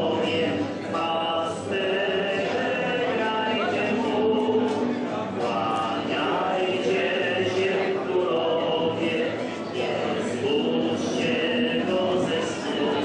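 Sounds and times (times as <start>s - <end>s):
group of voices singing: 0.0s - 13.0s
murmur of conversation: 0.0s - 13.0s.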